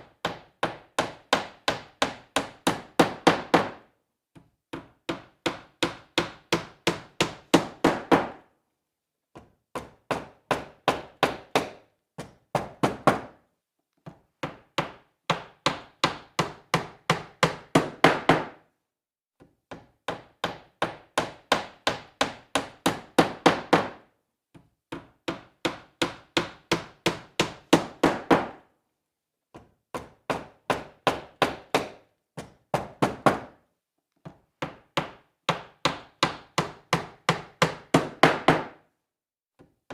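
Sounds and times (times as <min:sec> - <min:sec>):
hammer driving nail into wood: 0:00.0 - 0:08.5, 0:09.3 - 0:13.4, 0:14.0 - 0:18.6, 0:19.4 - 0:28.7, 0:29.5 - 0:38.9.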